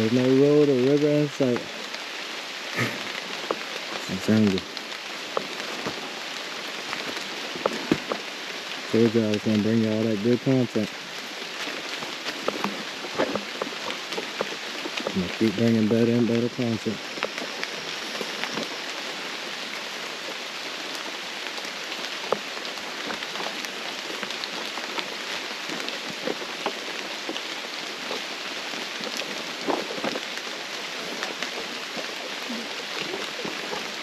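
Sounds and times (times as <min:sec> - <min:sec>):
light rain on foliage: 0:00.0 - 0:34.0.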